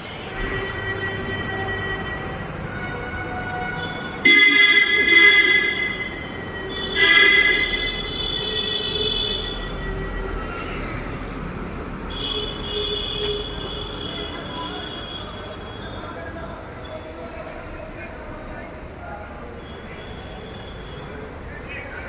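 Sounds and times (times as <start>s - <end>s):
train wheels squealing on rails: 0.0s - 22.0s.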